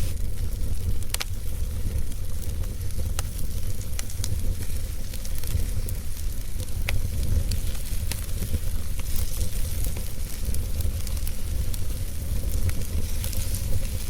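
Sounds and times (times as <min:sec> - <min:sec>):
fire flame rumble: 0:00.0 - 0:14.0
wood crackling and popping: 0:00.0 - 0:14.0.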